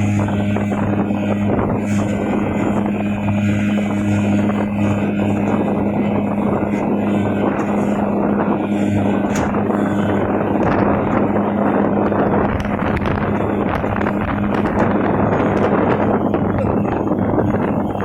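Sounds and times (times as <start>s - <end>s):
speedboat engine running: 0.0s - 18.0s
wind buffeting microphone: 0.0s - 18.0s.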